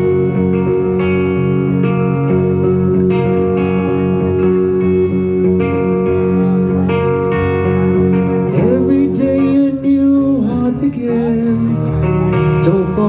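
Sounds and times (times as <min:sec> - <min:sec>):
live rock band playing: 0:00.0 - 0:13.0
wavering pitch-bending guitar line: 0:00.0 - 0:13.0.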